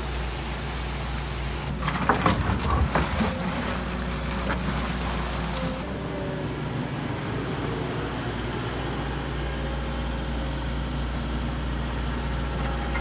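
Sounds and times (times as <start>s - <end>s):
excavator diesel engine hum: 0.0s - 13.0s
muddy water rushing: 0.0s - 13.0s.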